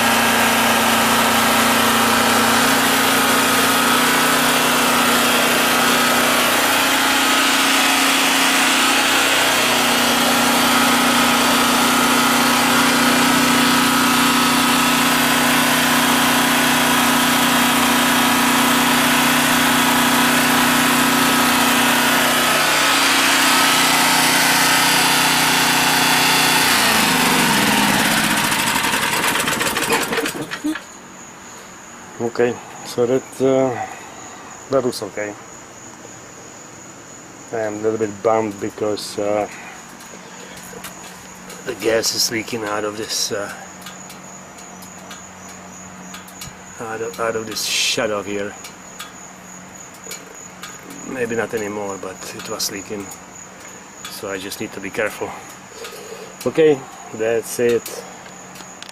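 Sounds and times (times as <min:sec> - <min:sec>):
generator engine running: 0:00.0 - 0:31.1, 0:38.2 - 0:58.9.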